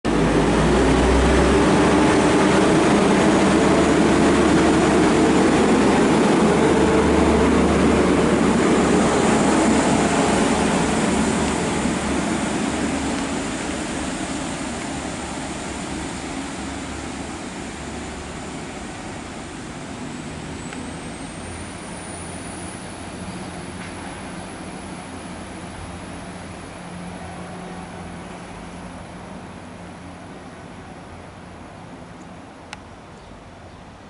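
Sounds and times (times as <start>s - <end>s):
diesel train pulling away: 0.1s - 32.7s.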